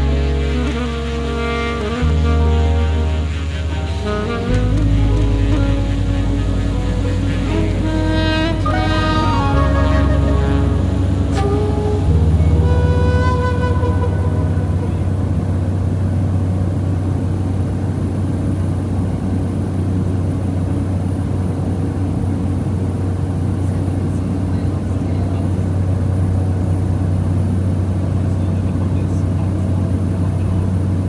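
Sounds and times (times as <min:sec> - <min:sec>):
airplane engine drone in cabin: 0:00.0 - 0:31.0.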